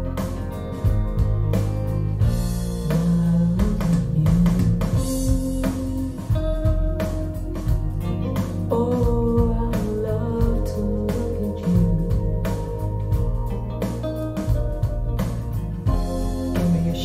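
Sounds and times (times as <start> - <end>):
rock music over loudspeakers: 0.0 - 17.0.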